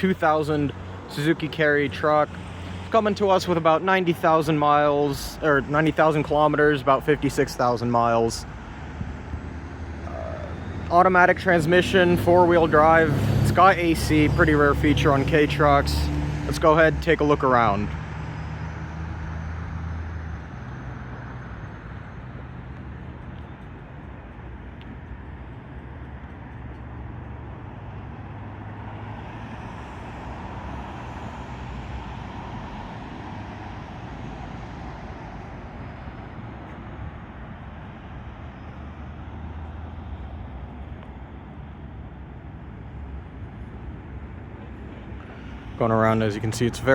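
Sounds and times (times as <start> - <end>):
hum of road traffic: 0.0 - 46.9.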